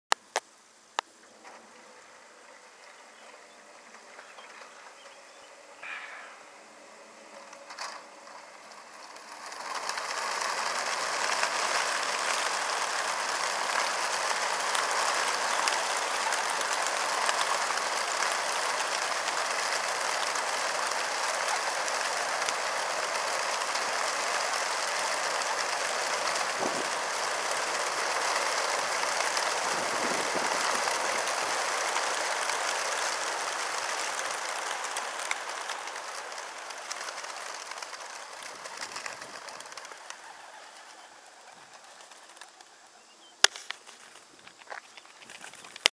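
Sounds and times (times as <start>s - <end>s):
pigeon wings flapping: 5.8s - 45.9s.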